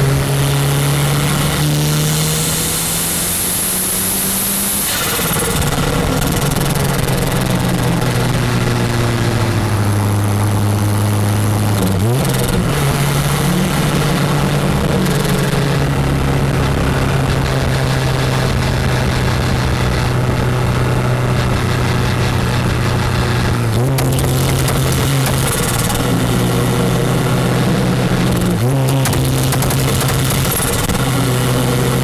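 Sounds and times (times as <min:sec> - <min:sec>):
turbocharged car engine running: 0:00.0 - 0:32.0.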